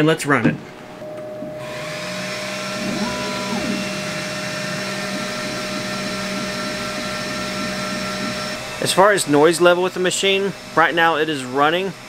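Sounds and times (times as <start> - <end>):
fan whirring with high whine: 0.7 - 12.0
laser head motors sweeping: 1.4 - 11.6.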